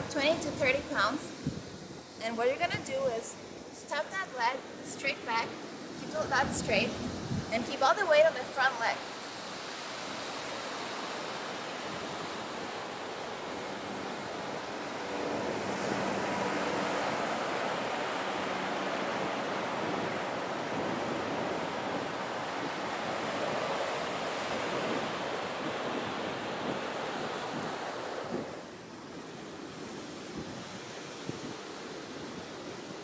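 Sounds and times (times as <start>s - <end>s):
wind on microphone: 0.0s - 3.2s, 5.3s - 7.8s, 9.1s - 33.0s
ocean surf washing on beach: 0.0s - 33.0s.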